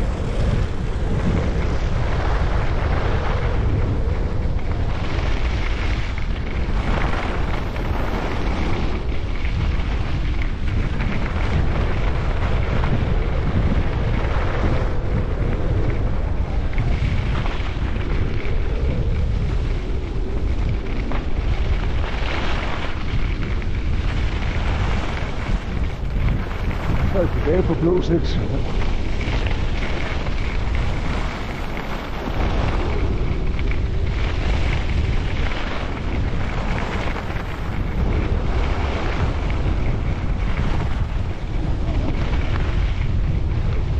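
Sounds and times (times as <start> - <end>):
skis scraping on snow: 0.0 - 43.9
wind rumble on microphone: 0.0 - 43.9.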